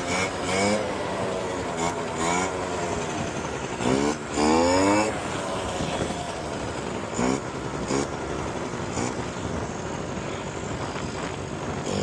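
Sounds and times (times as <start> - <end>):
two-stroke quad engine revving: 0.0 - 12.0.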